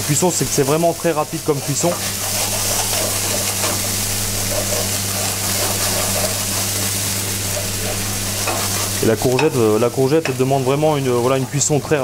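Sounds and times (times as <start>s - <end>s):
courgettes sizzling in frying pan: 0.0s - 12.0s
steady low hum: 0.4s - 11.6s.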